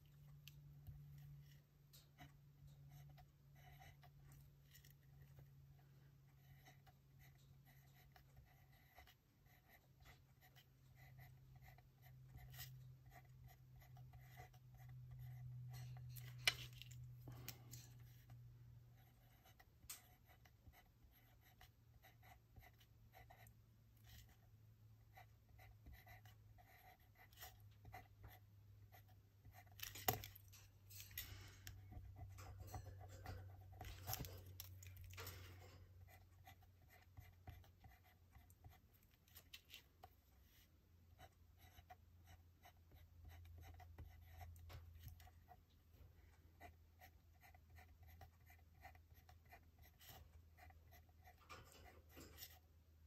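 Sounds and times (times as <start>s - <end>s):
pencil scratching on paper: 0.0s - 52.7s.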